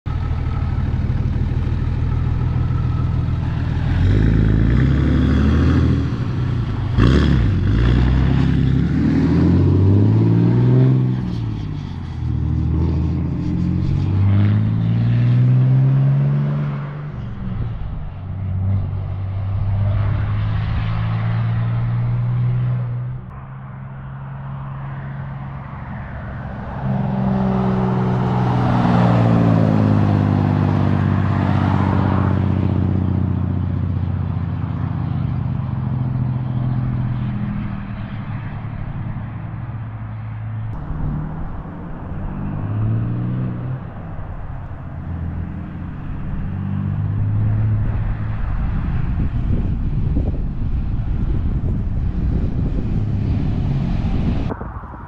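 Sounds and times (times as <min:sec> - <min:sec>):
diesel engine accelerating through gears: 0:00.0 - 0:24.0, 0:24.8 - 0:54.6.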